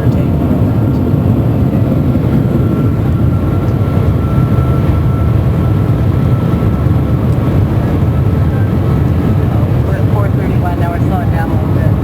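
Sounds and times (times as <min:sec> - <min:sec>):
train cabin rumble and rushing: 0:00.0 - 0:12.0.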